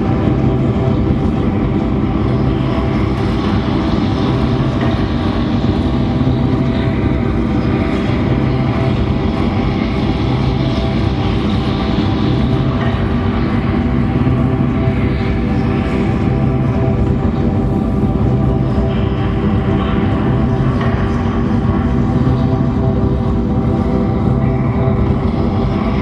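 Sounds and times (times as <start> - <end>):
deep hum: 0.0 - 26.0
drone music held tones: 0.0 - 26.0.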